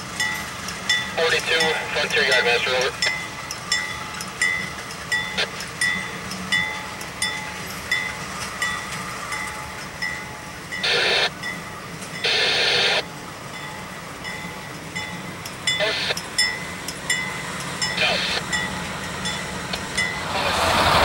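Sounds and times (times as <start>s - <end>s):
locomotive bell ringing: 0.0s - 21.0s
locomotives rolling slowly: 0.0s - 21.0s.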